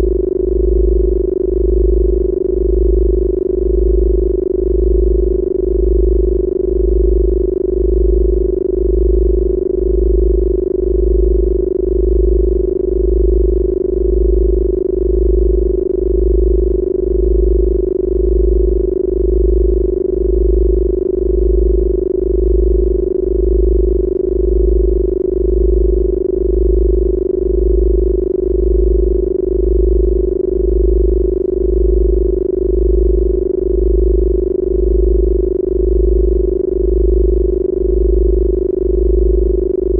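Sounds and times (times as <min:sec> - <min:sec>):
steady mid-pitched hum: 0:00.0 - 0:39.9.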